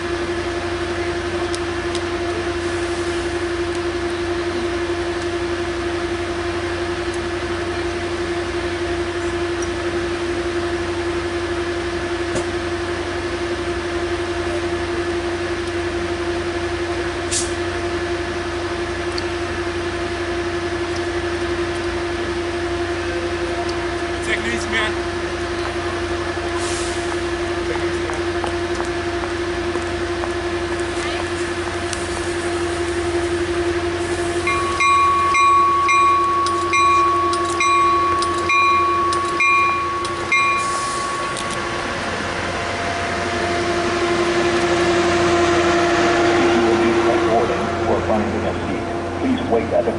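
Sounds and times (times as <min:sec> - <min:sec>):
diesel locomotive idling: 0:00.0 - 0:49.9.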